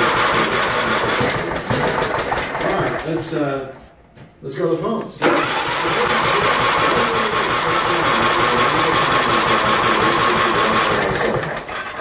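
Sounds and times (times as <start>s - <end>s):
engine starter cranking: 0.0s - 3.3s, 5.2s - 12.0s.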